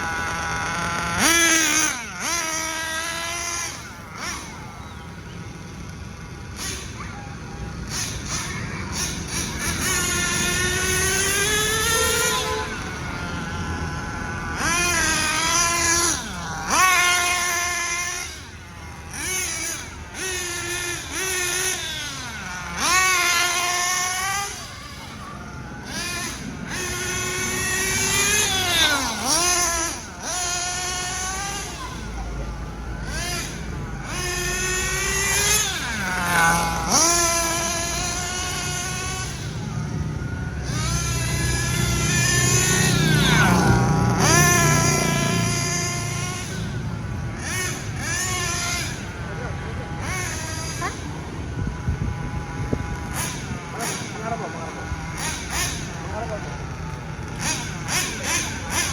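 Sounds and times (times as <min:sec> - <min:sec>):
nitro engine revving: 0:00.0 - 0:58.9.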